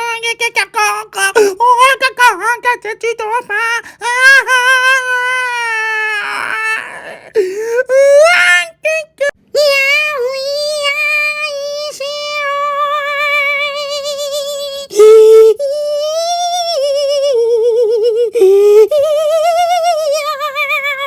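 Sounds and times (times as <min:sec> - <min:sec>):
shrill voice holding long notes: 0:00.0 - 0:21.0.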